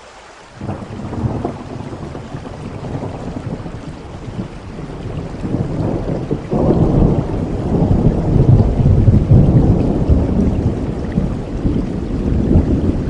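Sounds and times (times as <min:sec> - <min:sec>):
steady rain: 0:00.0 - 0:13.0
thunder rumbling: 0:00.6 - 0:13.0.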